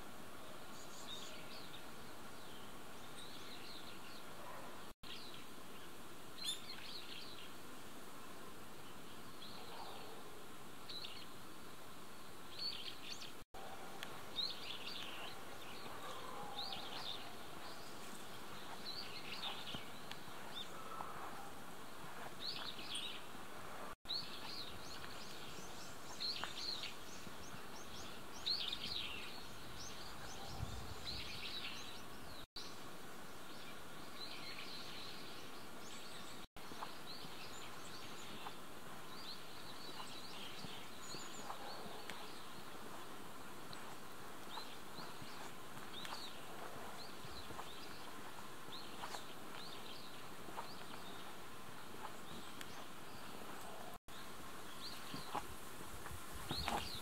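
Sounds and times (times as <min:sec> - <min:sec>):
outdoor background hiss: 0:00.0 - 0:57.0
small birds chirping: 0:00.0 - 0:57.0.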